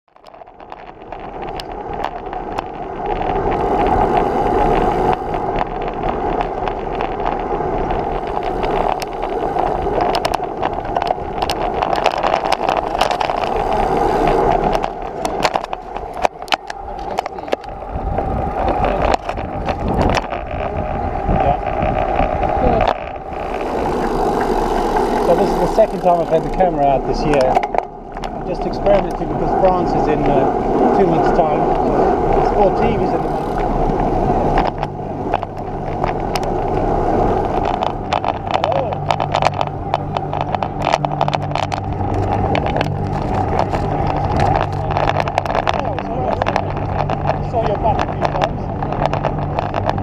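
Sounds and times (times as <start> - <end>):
bicycle clicks and knocks: 0.1 - 50.0
tyres on tarmac: 0.1 - 50.0
wind on microphone: 0.1 - 50.0.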